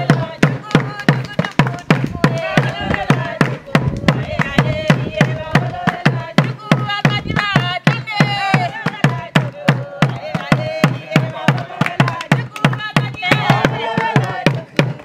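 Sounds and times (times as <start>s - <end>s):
hand claps: 0.0s - 15.0s
women singing: 0.0s - 15.0s
wooden drum beat: 0.0s - 15.0s.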